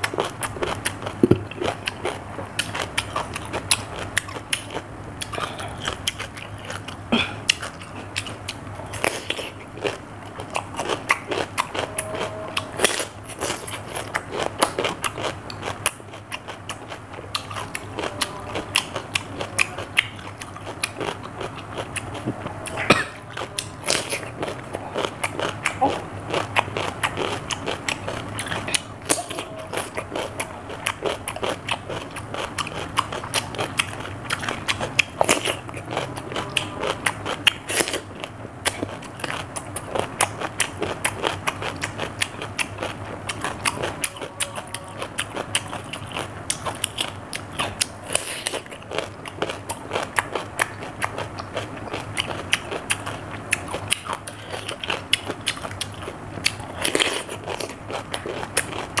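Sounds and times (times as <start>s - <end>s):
person crunching cucumber: 0.0s - 59.0s.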